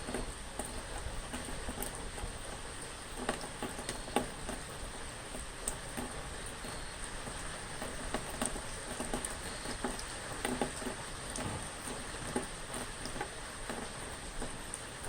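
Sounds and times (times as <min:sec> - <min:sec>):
rain drops tapping: 0:00.0 - 0:15.0.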